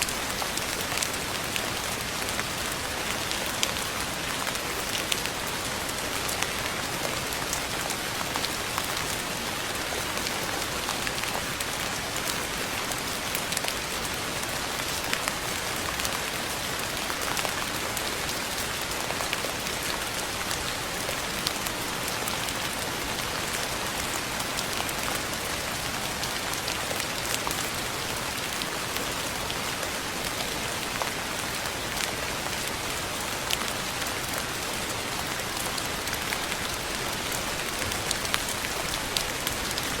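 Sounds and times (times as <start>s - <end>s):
rain pattering on a surface: 0.0s - 40.0s.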